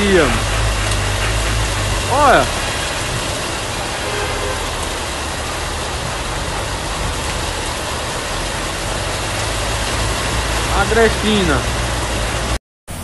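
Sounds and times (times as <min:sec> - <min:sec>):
rushing floodwater: 0:00.0 - 0:12.6
heavy rain: 0:00.0 - 0:13.0.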